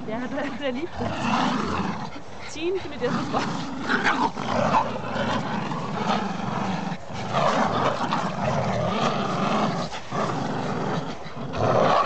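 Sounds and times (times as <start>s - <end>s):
dogs growling: 0.0s - 12.0s.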